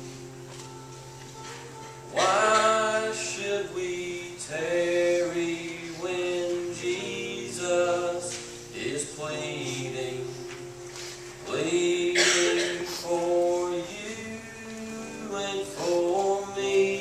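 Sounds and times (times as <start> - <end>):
instrumental accompaniment: 0.0 - 17.0
young man singing: 2.1 - 10.7, 11.4 - 17.0.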